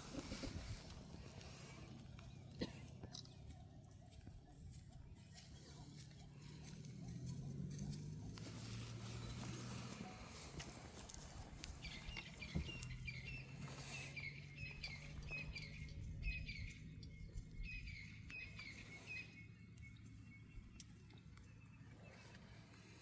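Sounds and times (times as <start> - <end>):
bird singing: 1.2 - 23.0.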